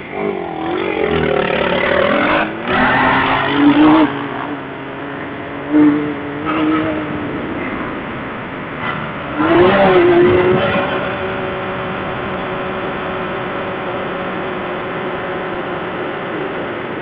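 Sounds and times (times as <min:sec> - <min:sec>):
utility vehicle engine under load: 0:00.0 - 0:17.0.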